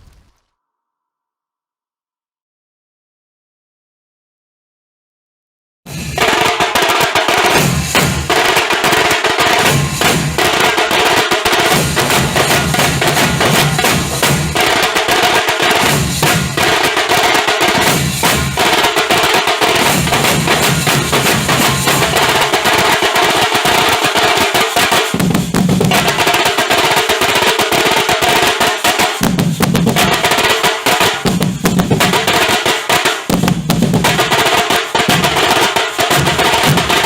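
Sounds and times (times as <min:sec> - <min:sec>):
dhol and tasha drumming: 0:05.9 - 0:37.0.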